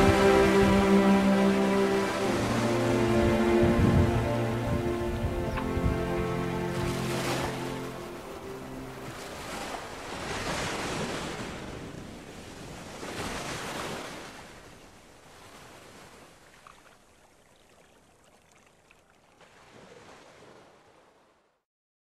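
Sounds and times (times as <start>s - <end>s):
gentle waves washing in: 0.0s - 21.5s
wind: 0.0s - 21.6s.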